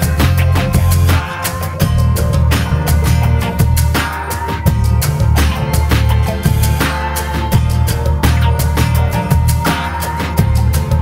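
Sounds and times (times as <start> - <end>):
heavy bass line: 0.0 - 11.0.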